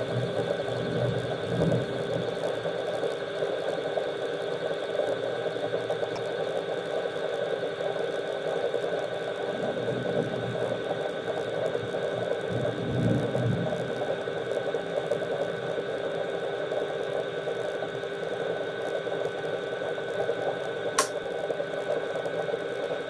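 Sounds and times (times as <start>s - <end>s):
machine hum with whine: 0.0s - 23.0s.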